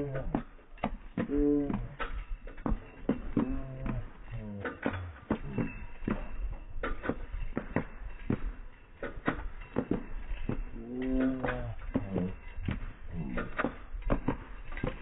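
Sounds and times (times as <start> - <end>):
harness and cart rattling: 0.0 - 15.0
horse hooves clopping on pavement: 0.0 - 15.0.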